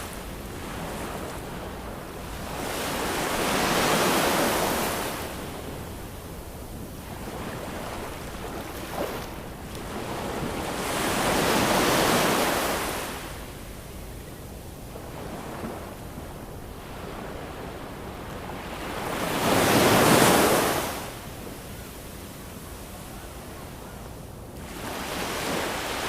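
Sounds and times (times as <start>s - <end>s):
ocean waves breaking on shore: 0.0s - 13.7s, 14.9s - 21.5s, 24.6s - 26.0s.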